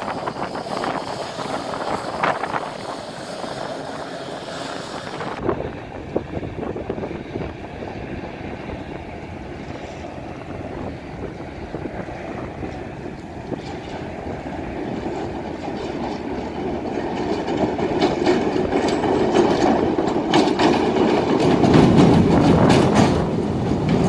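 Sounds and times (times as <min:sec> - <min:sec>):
train rumbling: 0:00.0 - 0:24.0
wind buffeting microphone: 0:00.0 - 0:24.0.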